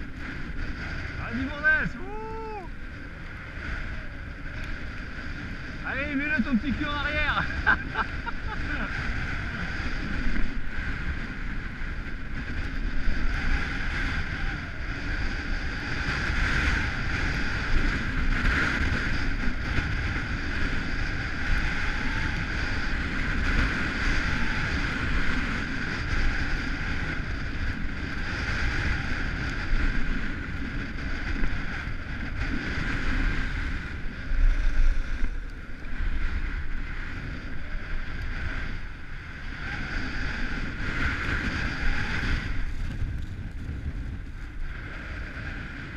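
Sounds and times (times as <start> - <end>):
skis sliding over packed snow: 0.0 - 45.9
wind buffeting microphone: 0.0 - 45.9.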